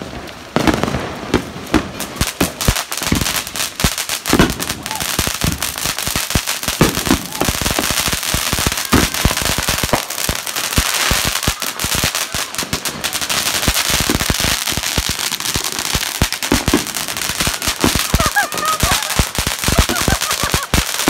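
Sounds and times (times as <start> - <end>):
firecrackers popping: 0.0 - 21.0
firework fountain hissing: 0.0 - 21.0.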